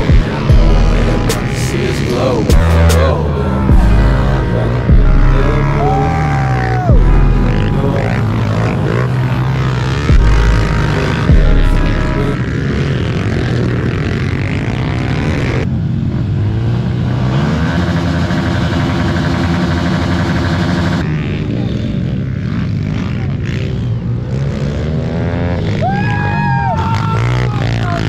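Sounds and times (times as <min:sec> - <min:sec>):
pit bike engines revving: 0:00.0 - 0:28.0.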